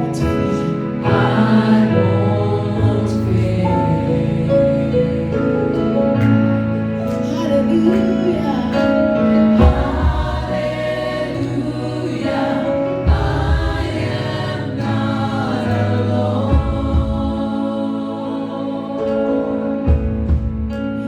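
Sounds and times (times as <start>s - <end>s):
steady bass line: 0.0s - 19.0s
gospel choir singing: 0.0s - 21.0s.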